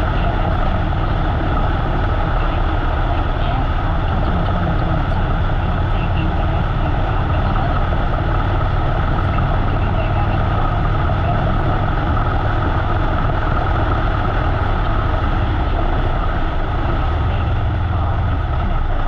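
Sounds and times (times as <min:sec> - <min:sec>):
motorcycle engine rumbling: 0:00.0 - 0:19.0
wind rush on microphone: 0:00.0 - 0:19.0.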